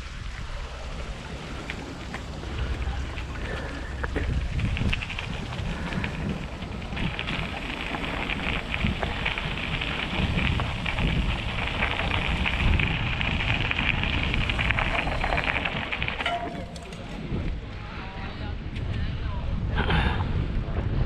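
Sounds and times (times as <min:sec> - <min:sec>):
tyres rolling over paving: 0:00.0 - 0:17.8
wind rumbling over microphone: 0:00.0 - 0:21.0.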